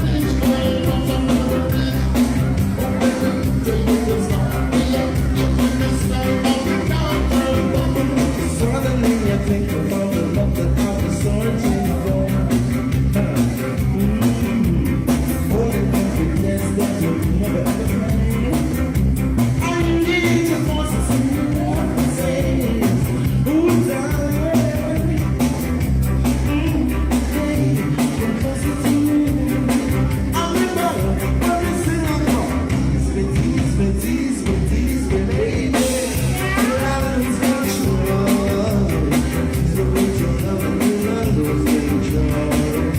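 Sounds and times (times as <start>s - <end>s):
person singing lead vocal: 0.0s - 42.9s
reggae band playing live: 0.0s - 42.9s.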